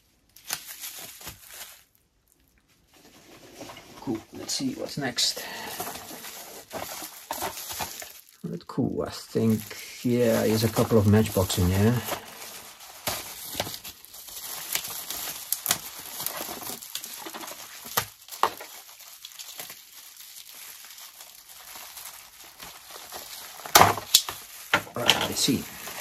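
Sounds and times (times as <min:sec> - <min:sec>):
packaging rustling and crinkling: 0:00.0 - 0:26.0.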